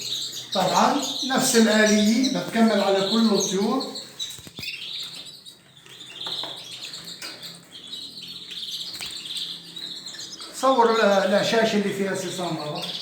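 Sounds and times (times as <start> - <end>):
canaries chirping: 0.0 - 13.0.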